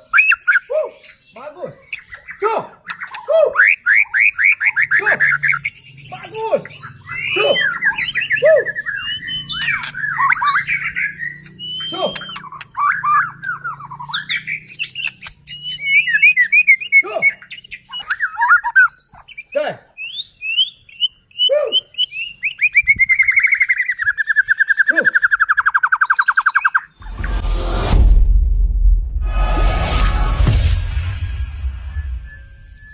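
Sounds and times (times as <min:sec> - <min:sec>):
songbird singing varied song: 0:00.0 - 0:27.0.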